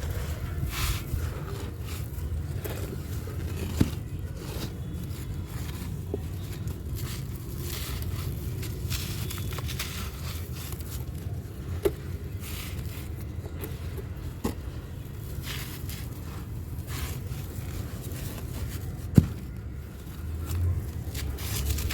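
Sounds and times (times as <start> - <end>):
crumbly block crunching: 0.0 - 21.9.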